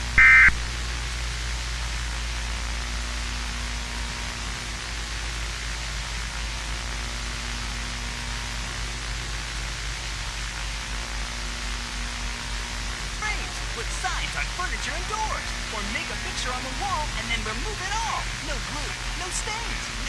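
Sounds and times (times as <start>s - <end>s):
low hum: 0.0s - 20.0s
static hiss: 0.0s - 20.0s.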